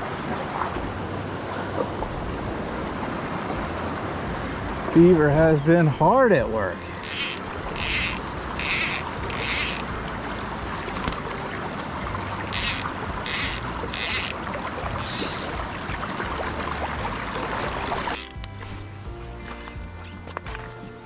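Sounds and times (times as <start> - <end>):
stream water over rocks: 0.0 - 21.0.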